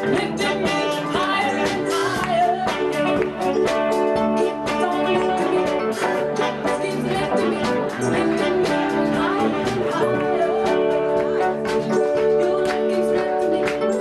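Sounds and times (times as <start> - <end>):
drum kit beat: 0.0 - 14.0
guitar: 0.0 - 14.0
person singing: 0.0 - 14.0.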